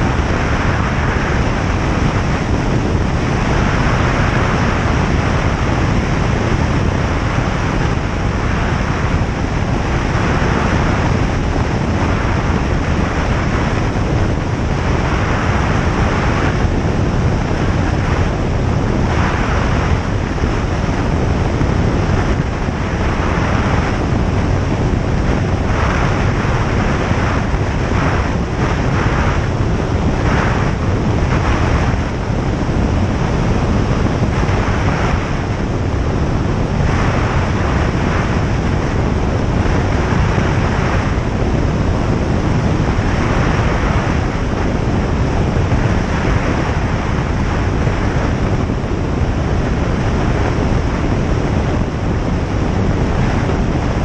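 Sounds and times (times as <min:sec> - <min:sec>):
aircraft piston engine and propeller: 0:00.0 - 0:54.0
rushing airflow: 0:00.0 - 0:54.0.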